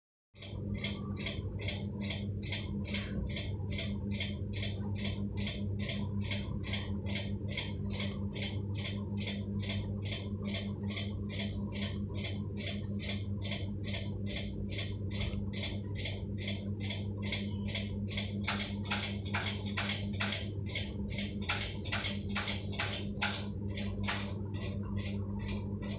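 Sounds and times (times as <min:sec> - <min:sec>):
electric fan motor hum: 0:00.4 - 0:25.9
fan ticking or scraping: 0:00.4 - 0:25.9.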